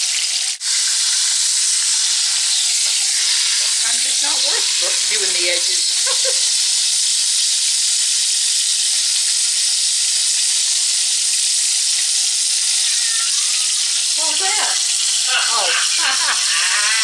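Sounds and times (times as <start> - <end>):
meat sizzling in hot oil: 0.0 - 17.0.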